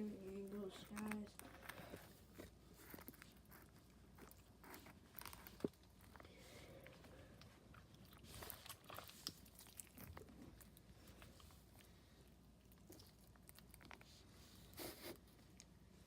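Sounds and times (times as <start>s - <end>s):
slime squishing by hand: 0.0s - 14.4s
small crackles: 0.0s - 14.6s.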